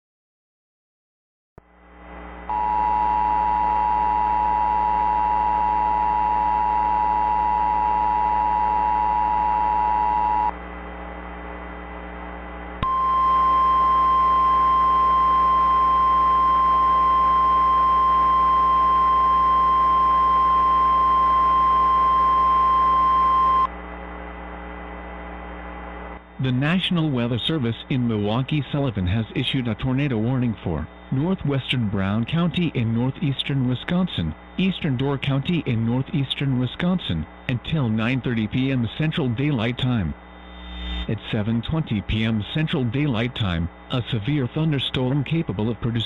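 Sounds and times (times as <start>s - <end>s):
low steady hum: 1.6s - 46.0s.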